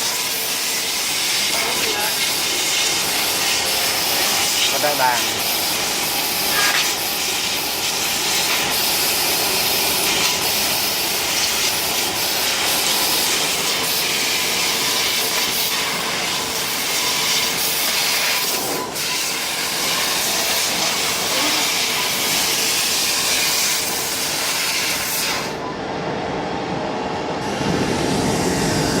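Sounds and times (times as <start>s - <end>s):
laser cutter hiss: 0.0s - 25.6s.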